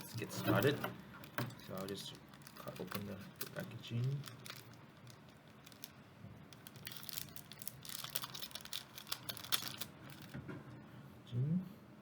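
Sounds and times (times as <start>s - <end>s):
plastic packaging crinkling and tearing: 0.2s - 10.4s.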